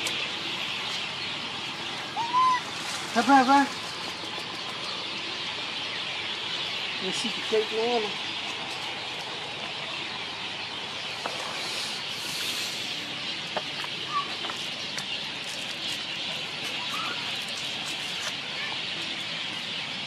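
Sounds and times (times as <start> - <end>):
short chirping calls: 0.0 - 20.0
steady outdoor hiss: 0.0 - 20.0.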